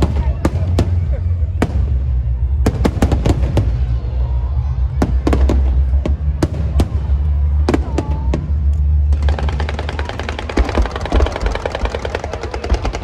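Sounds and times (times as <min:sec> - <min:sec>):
firecrackers banging: 0:00.0 - 0:13.0
steady low rumble: 0:00.0 - 0:13.0.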